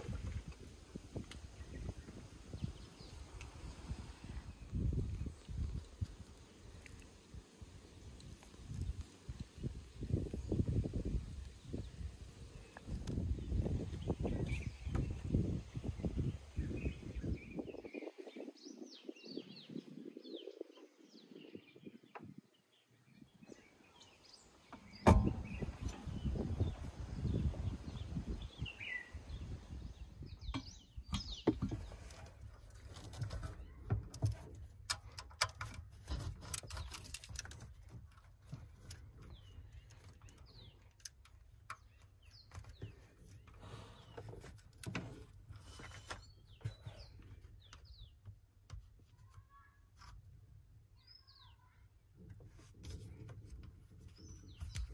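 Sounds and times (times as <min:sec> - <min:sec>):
birds chirping: 0:00.0 - 0:35.4, 0:36.0 - 0:48.4, 0:52.9 - 0:54.9.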